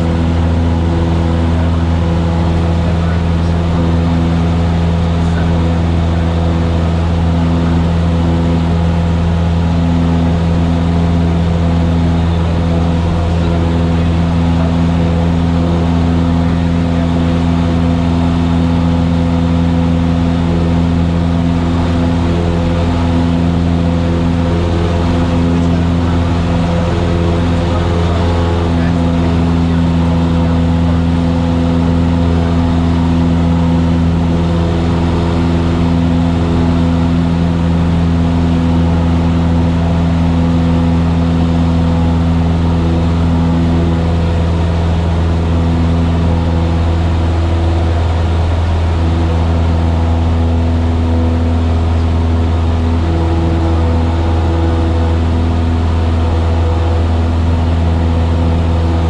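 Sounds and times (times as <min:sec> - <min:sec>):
propeller airplane engine drone: 0:00.0 - 0:59.0.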